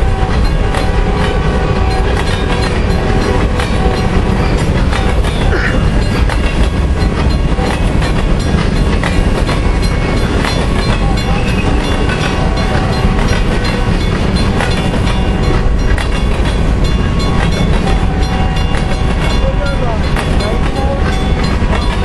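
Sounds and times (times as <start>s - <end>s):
steel wheels rumbling on rail: 0.0s - 22.0s
wheels clicking over rail joints: 0.0s - 22.0s.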